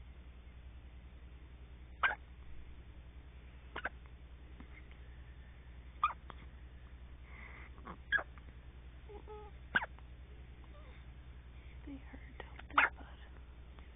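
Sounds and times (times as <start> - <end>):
low hum: 0.0 - 13.9.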